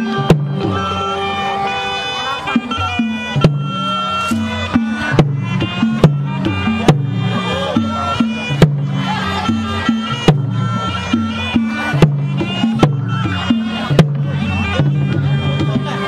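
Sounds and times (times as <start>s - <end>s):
reedy oboe melody: 0.0s - 16.0s
sharp percussion strikes: 0.0s - 16.0s.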